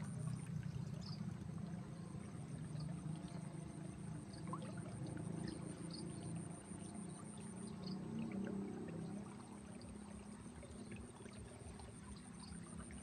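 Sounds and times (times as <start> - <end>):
ditch water flowing and trickling: 0.0 - 13.0.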